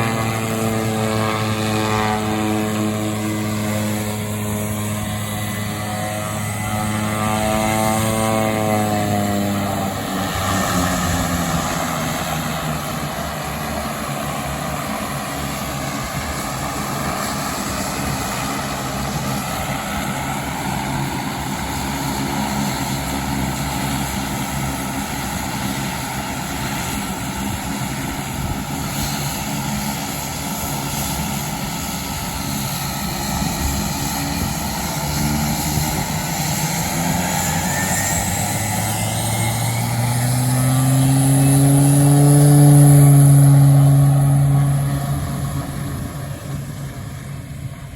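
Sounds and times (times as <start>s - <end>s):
propeller aircraft engine: 0.0s - 47.9s.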